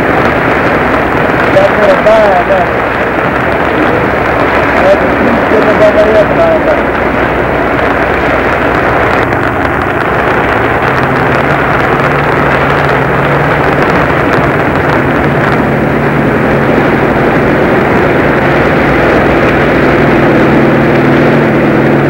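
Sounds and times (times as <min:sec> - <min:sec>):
helicopter engine and rotors: 0:00.0 - 0:22.0
low hum: 0:00.0 - 0:22.0.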